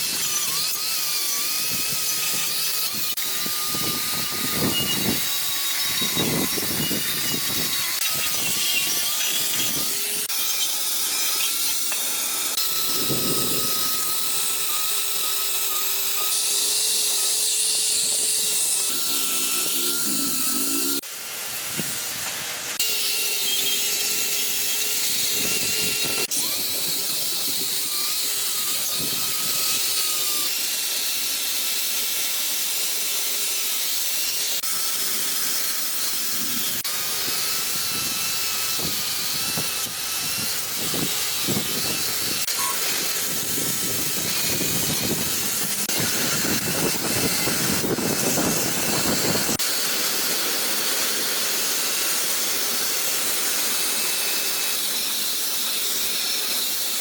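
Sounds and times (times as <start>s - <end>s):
power tool hissing: 0.0s - 31.3s, 34.6s - 55.9s.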